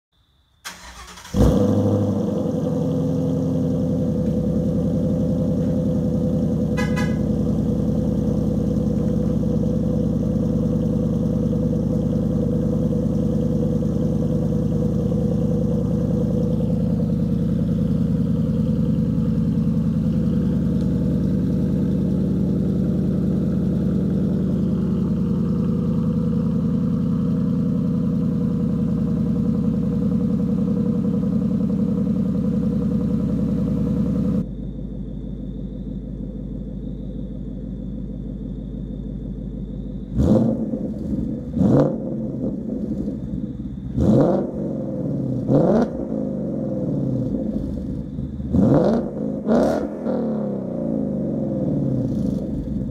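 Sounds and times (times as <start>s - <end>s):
car engine idling: 0.6s - 52.9s.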